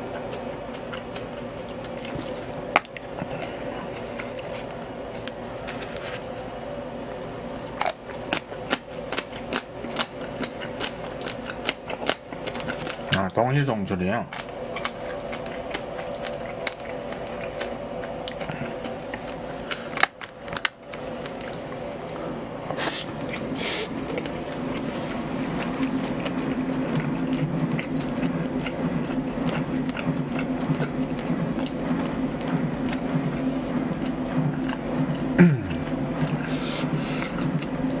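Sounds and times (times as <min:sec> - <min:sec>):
steady low hum: 0:00.0 - 0:38.0
wet squishy chewing: 0:00.1 - 0:06.5, 0:07.1 - 0:13.1, 0:14.3 - 0:38.0.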